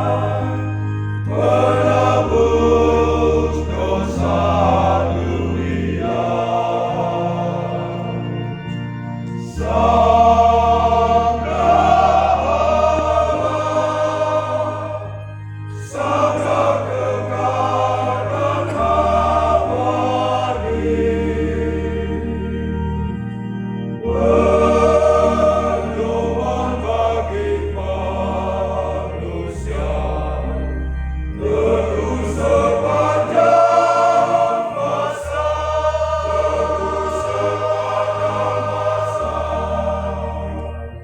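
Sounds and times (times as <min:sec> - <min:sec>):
choir singing a hymn: 0:00.0 - 0:41.0
sustained low bass notes: 0:00.0 - 0:41.0.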